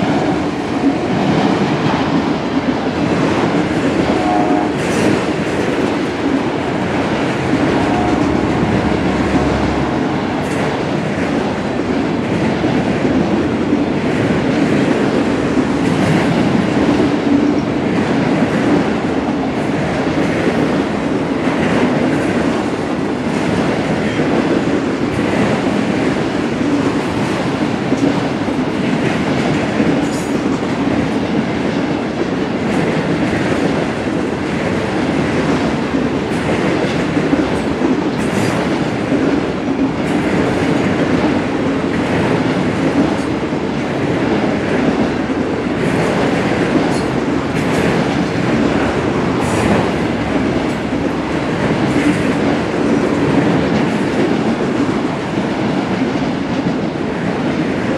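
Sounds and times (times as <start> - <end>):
steel wheels rumbling on rail: 0.0 - 57.9.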